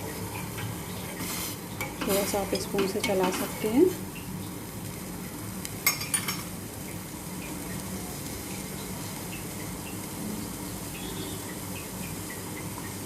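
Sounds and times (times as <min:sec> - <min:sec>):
gas stove hiss: 0:00.0 - 0:13.0.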